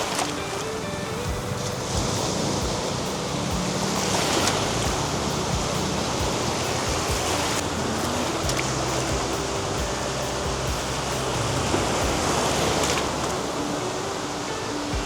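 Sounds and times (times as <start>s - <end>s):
soft background music: 0.0s - 15.0s
waves washing onto a beach: 0.0s - 15.0s.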